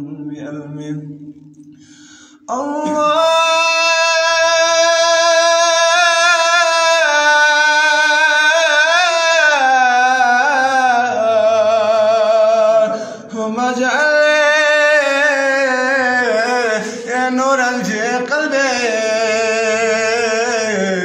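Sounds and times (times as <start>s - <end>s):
man chanting: 0.0s - 1.4s, 2.4s - 21.0s.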